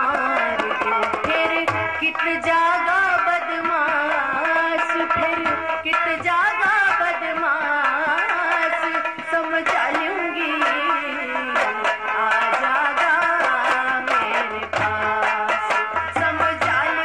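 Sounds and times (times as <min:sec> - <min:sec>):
wavering folk melody: 0:00.0 - 0:17.0.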